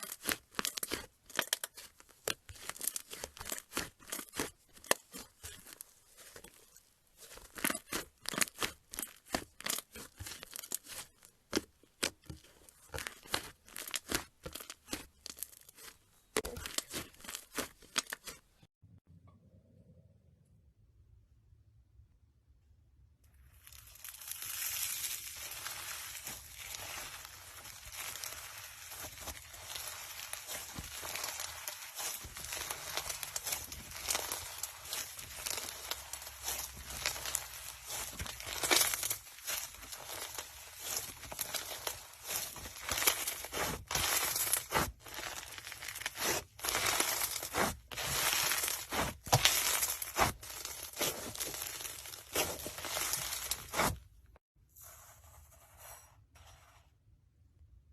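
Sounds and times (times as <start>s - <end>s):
slime being squished: 0.0s - 18.4s, 23.7s - 54.0s.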